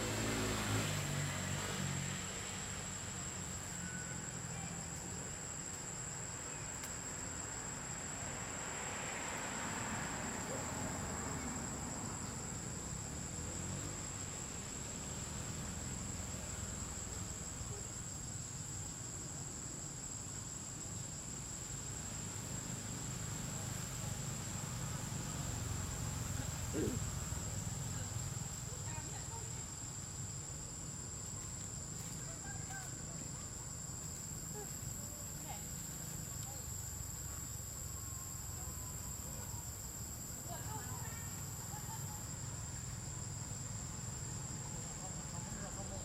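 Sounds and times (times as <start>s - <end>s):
insects trilling: 0.1s - 46.0s.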